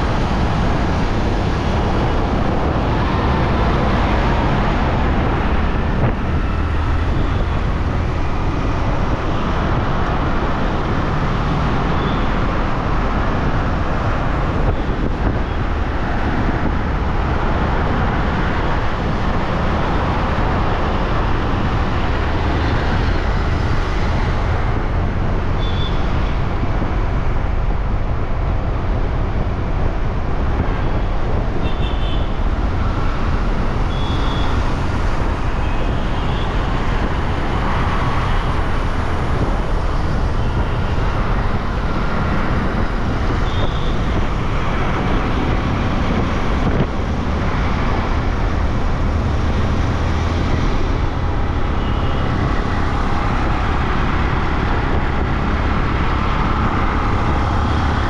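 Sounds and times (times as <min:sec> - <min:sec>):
city traffic: 0:00.0 - 0:58.0
wind rumble on microphone: 0:00.0 - 0:58.0.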